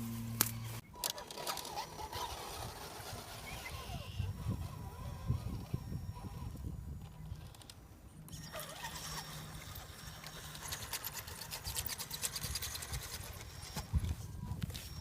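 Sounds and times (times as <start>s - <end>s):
toy car motor humming: 0.9s - 15.0s
clicks and clatter of crawler: 1.0s - 5.5s, 7.0s - 15.0s.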